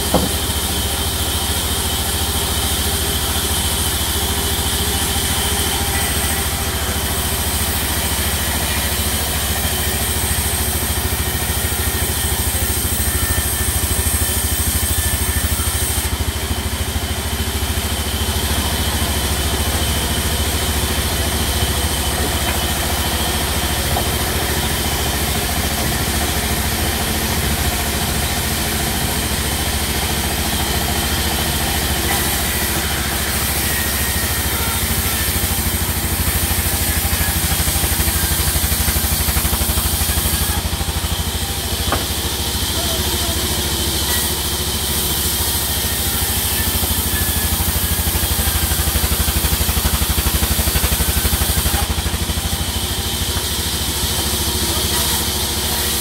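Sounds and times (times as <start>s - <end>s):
band saw cutting a log: 0.0s - 56.0s.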